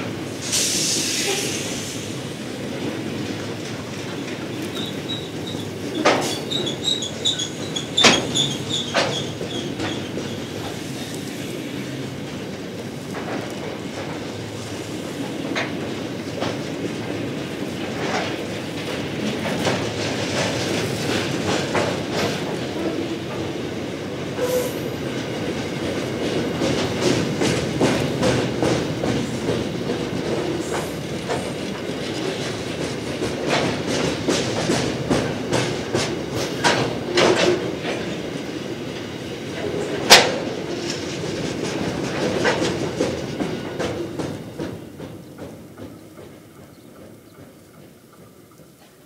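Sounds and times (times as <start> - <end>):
clickety-clack over rails: 0.0 - 49.0
train wheels rumbling: 0.0 - 49.0.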